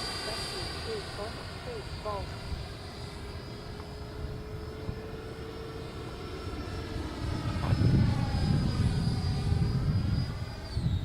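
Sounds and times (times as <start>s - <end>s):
rc jet fan whine: 0.0s - 11.0s.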